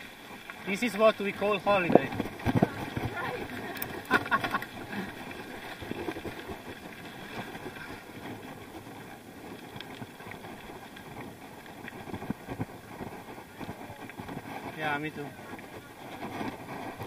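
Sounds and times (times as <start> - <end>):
bicycle tyre road noise: 0.0 - 17.0
wind on microphone: 1.6 - 17.0.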